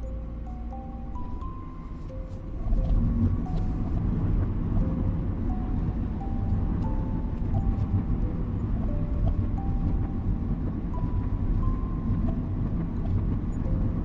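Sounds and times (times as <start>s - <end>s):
car driving rumble: 0.0s - 14.0s
soft slow melody: 0.0s - 14.0s.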